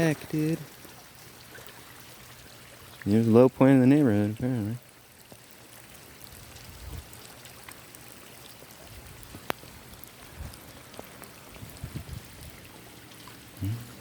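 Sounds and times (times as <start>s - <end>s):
water rushing through flooded street: 0.0s - 14.0s.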